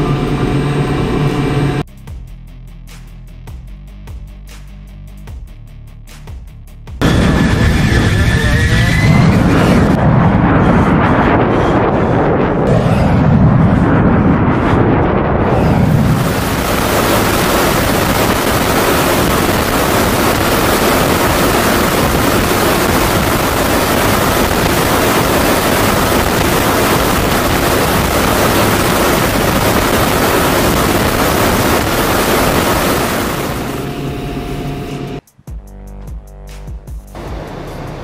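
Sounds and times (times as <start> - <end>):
aircraft engines and rushing air: 0.0 - 1.9, 7.0 - 35.3, 37.1 - 38.0.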